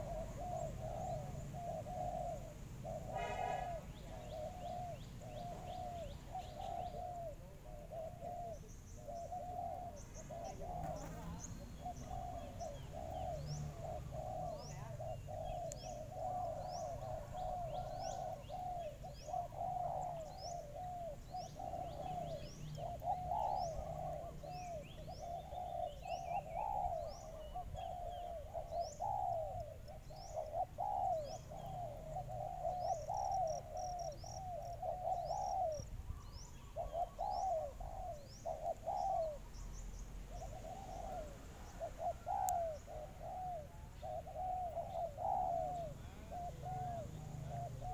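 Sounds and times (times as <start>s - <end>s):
doves cooing: 0.0s - 47.9s
small birds chirping: 0.0s - 47.9s.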